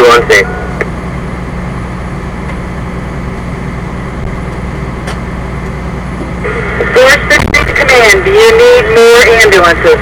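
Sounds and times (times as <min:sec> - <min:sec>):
fire engine running: 0:00.0 - 0:10.0
steady rushing noise: 0:00.7 - 0:10.0.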